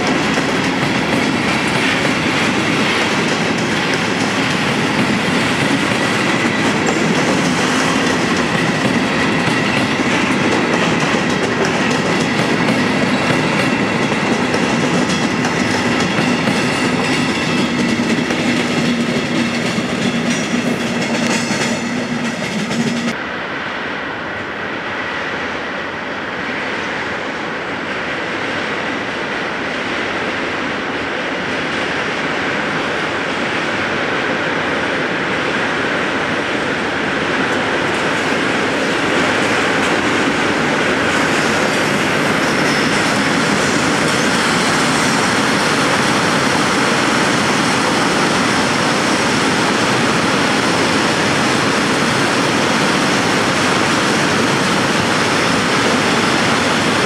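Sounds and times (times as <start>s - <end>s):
train wheels rumbling on rails: 0.0s - 23.2s, 24.3s - 57.0s.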